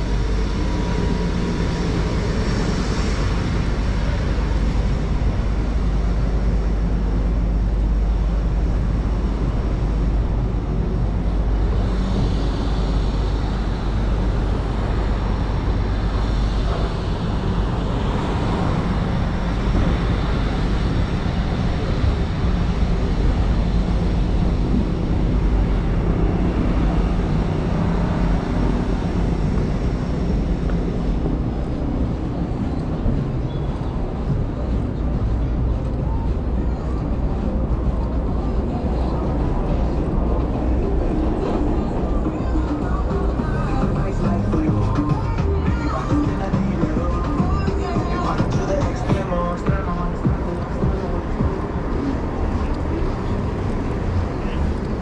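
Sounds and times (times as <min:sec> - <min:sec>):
low traffic rumble: 0:00.0 - 0:55.0
passing vehicles: 0:00.0 - 0:55.0.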